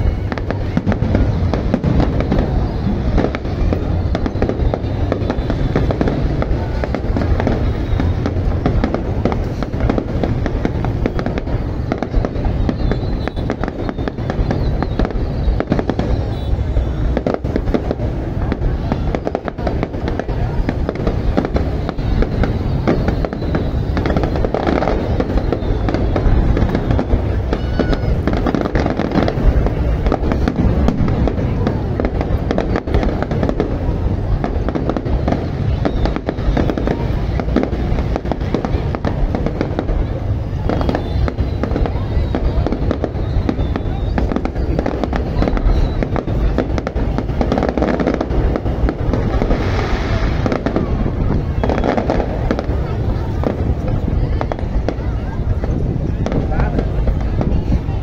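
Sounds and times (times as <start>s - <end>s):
fireworks booming and crackling: 0.0s - 58.0s.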